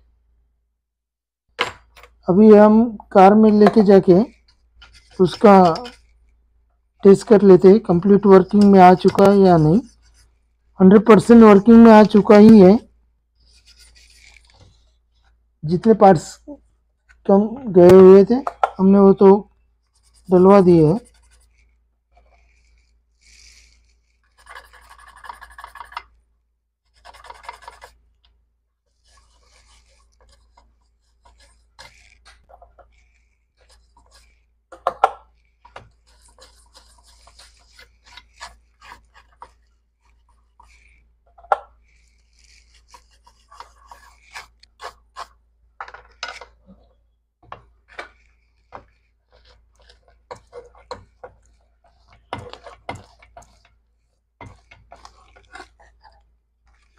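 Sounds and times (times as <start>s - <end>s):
hand scratching circuit board: 2.5s - 56.9s.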